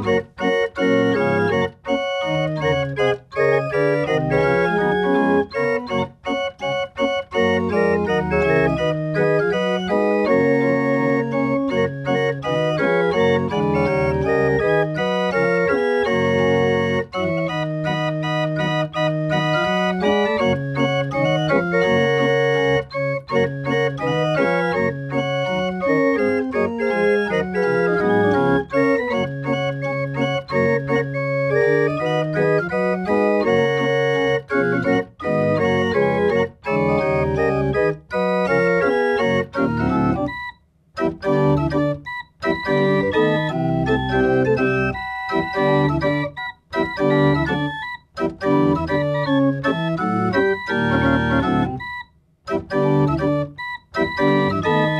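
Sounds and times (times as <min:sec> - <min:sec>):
chest organ playing chords: 0:00.0 - 0:54.9.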